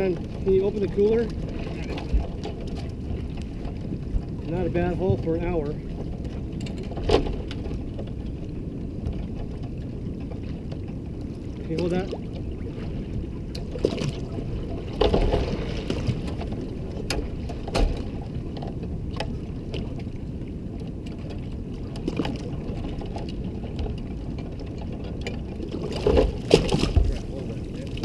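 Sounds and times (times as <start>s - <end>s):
boat engine idling: 0.0s - 28.0s.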